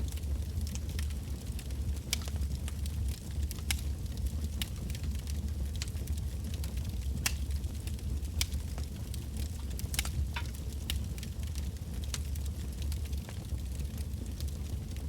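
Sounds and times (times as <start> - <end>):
bonfire low rumble: 0.0 - 15.0
logs crackling and popping: 0.0 - 15.0.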